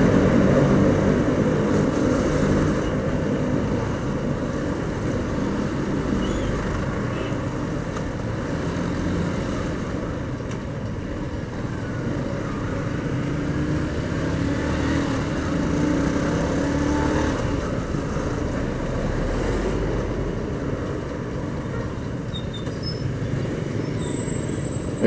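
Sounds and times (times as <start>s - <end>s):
hum of surrounding traffic: 0.0s - 25.0s.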